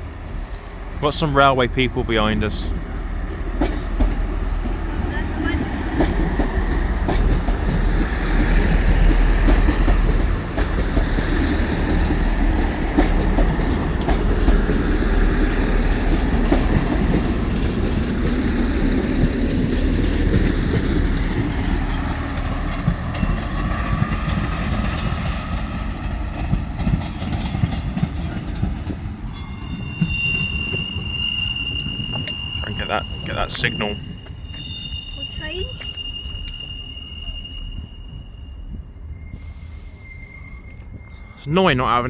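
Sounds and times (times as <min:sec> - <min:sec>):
diesel train engine rumble: 0:00.0 - 0:42.0
train wheels clicking on rail joints: 0:02.4 - 0:39.9.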